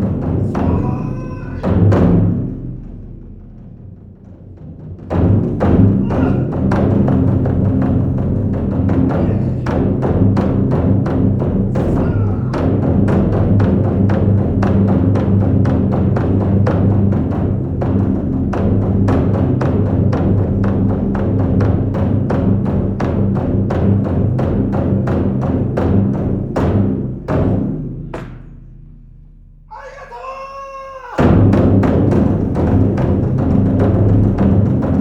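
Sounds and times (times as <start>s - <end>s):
taiko drums in fast rhythm: 0.0s - 28.9s, 29.7s - 35.0s.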